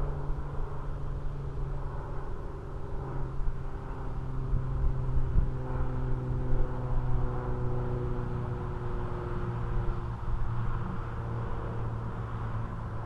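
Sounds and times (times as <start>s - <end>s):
electric motor and propeller humming: 0.0s - 13.0s
wind rumble on microphone: 0.0s - 13.0s.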